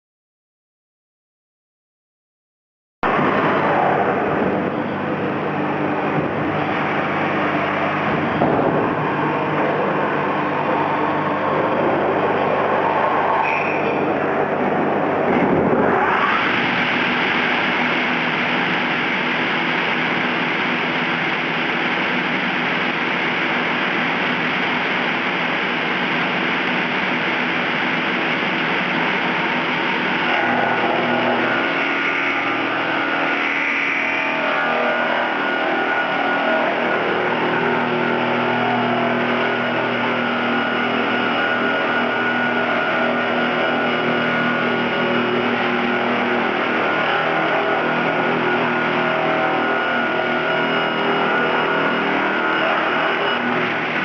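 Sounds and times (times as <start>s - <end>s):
steady machine hum: 3.0s - 54.0s
resawing machine running: 3.1s - 54.0s.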